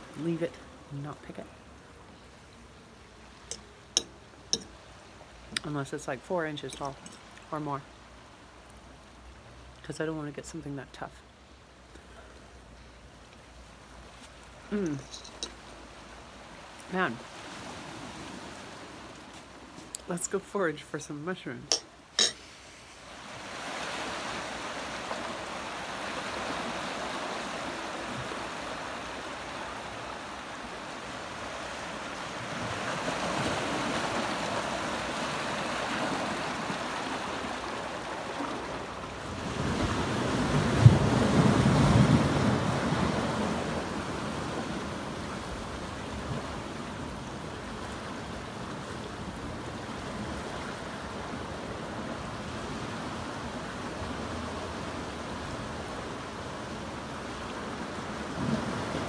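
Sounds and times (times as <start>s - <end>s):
surf washing among rocks: 0.0s - 10.4s, 13.8s - 20.6s, 21.8s - 59.0s.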